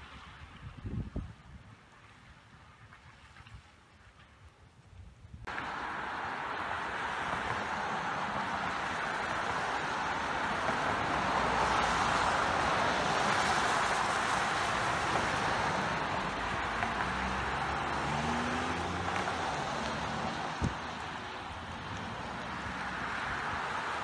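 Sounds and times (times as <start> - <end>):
tyres hissing on wet road: 0.0 - 0.8, 5.4 - 24.0.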